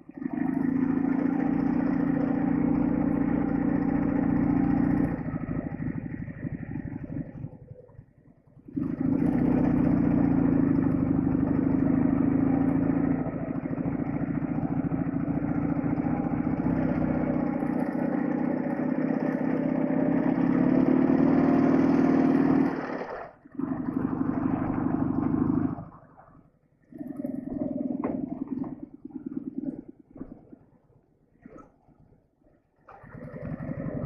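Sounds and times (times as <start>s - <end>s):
motorcycle engine running: 0.0s - 26.1s, 27.0s - 30.5s, 32.9s - 34.0s.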